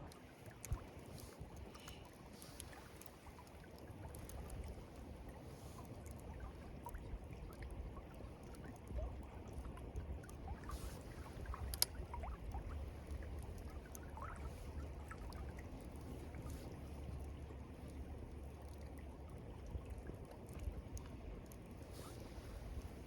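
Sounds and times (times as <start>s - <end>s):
river water flowing and trickling: 0.0s - 23.0s.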